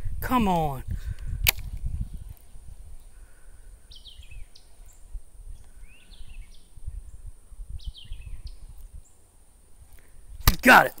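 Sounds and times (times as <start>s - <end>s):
songbird chirping: 0.6s - 11.0s.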